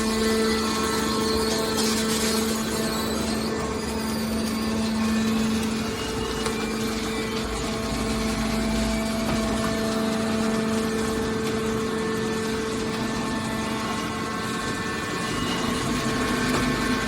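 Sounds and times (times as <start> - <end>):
hydraulic pump motor humming: 0.0 - 17.0.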